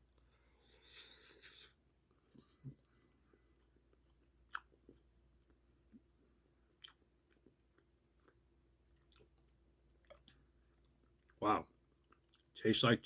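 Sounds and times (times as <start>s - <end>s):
faint chewing: 0.0s - 12.6s.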